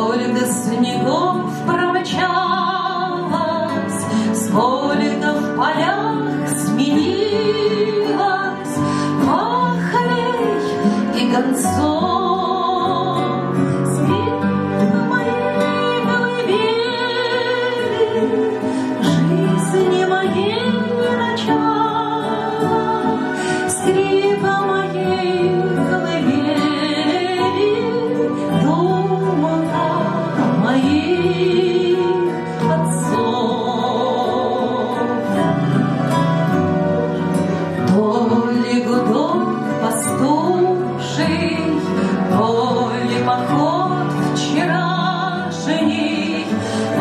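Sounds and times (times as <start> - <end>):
sustained instrumental accompaniment: 0.0 - 47.0
woman singing with vibrato: 0.0 - 47.0.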